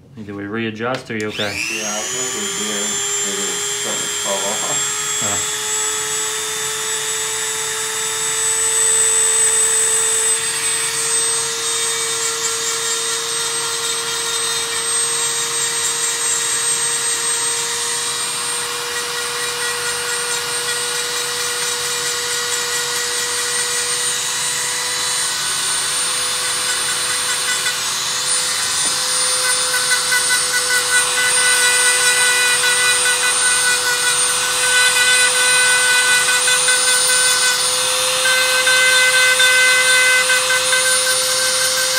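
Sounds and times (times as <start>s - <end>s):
electric nail drill whining: 1.0s - 41.9s.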